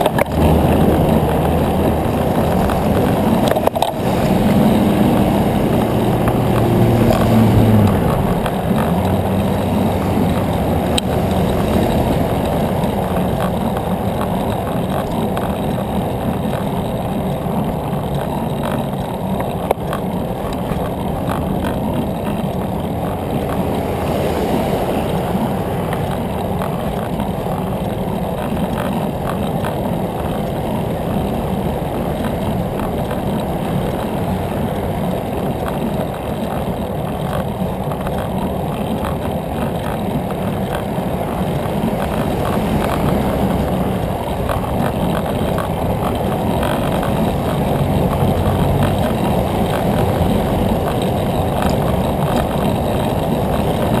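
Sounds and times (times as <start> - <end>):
low hum: 0.0 - 54.0
wind rushing over microphone: 0.0 - 54.0.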